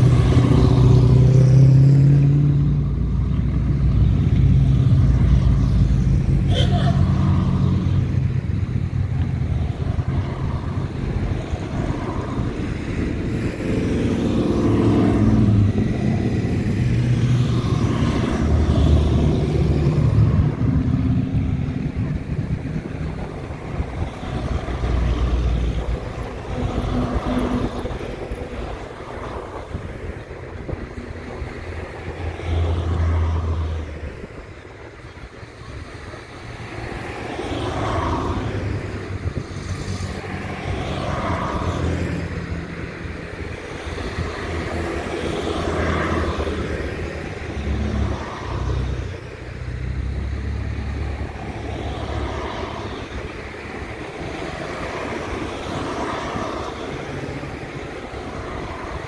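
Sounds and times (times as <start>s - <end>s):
cars and motorbikes driving past: 0.0s - 59.0s.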